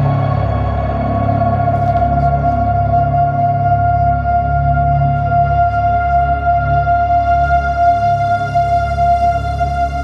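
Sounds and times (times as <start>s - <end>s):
ambient music with deep bass: 0.0s - 10.0s.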